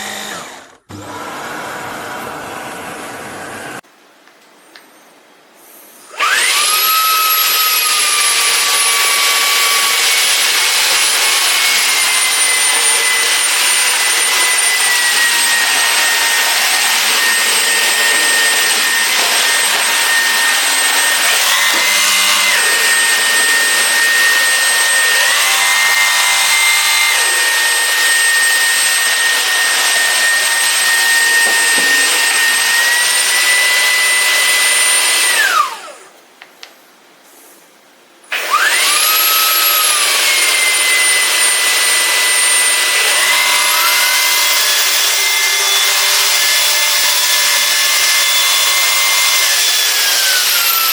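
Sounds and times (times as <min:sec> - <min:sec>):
cordless vacuum cleaner running: 0:00.0 - 0:03.8, 0:06.1 - 0:36.1, 0:38.3 - 0:50.9.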